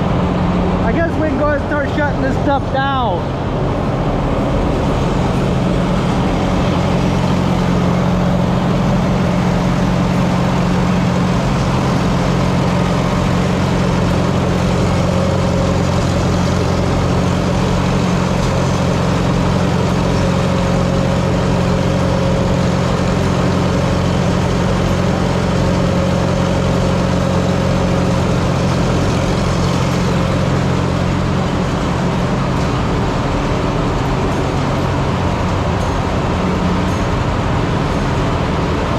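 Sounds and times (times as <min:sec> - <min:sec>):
tractor engine humming: 0:00.0 - 0:38.9.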